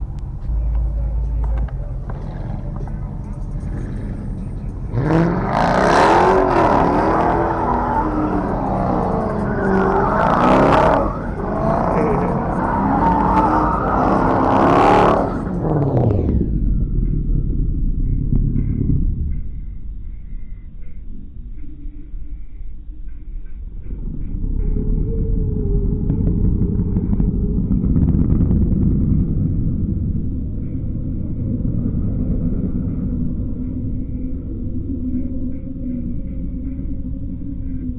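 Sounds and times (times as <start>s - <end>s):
car engine revving: 0.0s - 19.6s, 23.8s - 37.9s.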